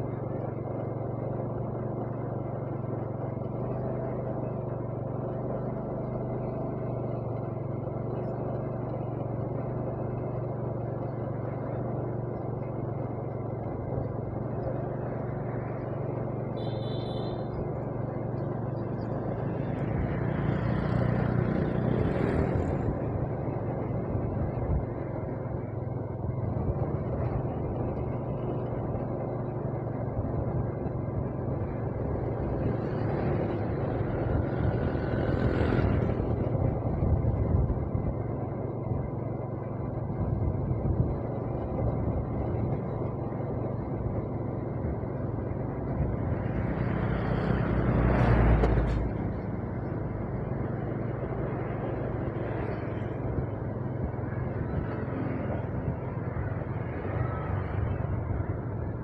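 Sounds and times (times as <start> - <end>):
road and wind noise: 0.0 - 59.0
vehicle engine hum: 0.0 - 59.0.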